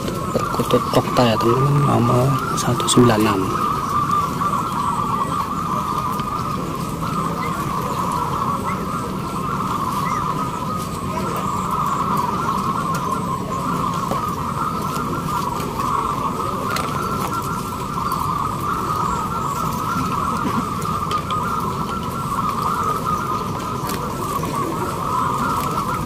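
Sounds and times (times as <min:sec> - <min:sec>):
doves cooing in chorus: 0:00.0 - 0:26.0.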